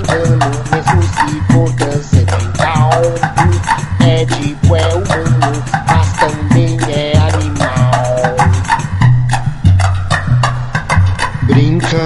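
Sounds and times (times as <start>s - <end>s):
samba bass line: 0.0s - 12.0s.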